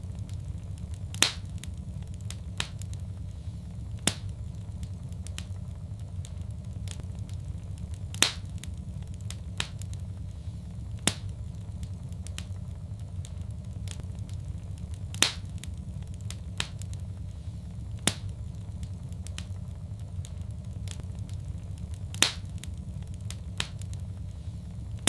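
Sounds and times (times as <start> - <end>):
fire popping and crackling: 0.0 - 25.0
fire rumbling: 0.0 - 25.0.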